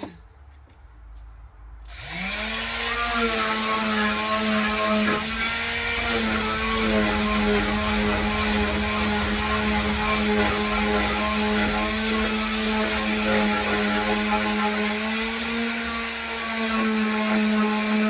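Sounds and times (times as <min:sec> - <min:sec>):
electric sander on wood: 0:01.9 - 0:18.0.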